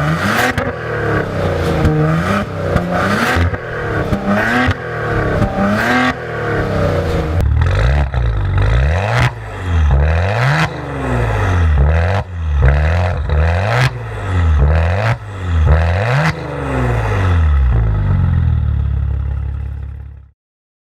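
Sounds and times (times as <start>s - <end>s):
car engine revving: 0.0s - 19.4s.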